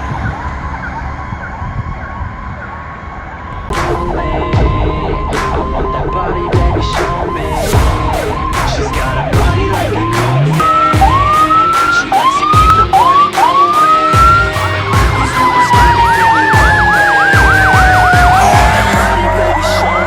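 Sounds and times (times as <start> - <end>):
emergency vehicle sirens: 0.0 - 20.0.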